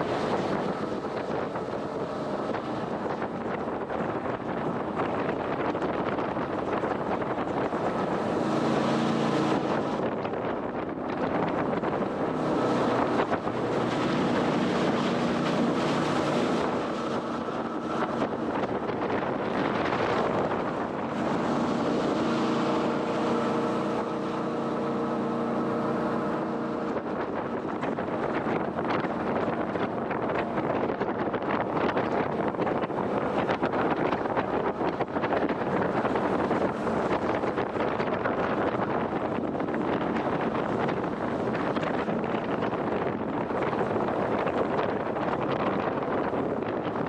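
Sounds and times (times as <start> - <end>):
boat engine: 0.0 - 47.0
rushing water: 0.0 - 47.0
wind buffeting microphone: 0.0 - 47.0.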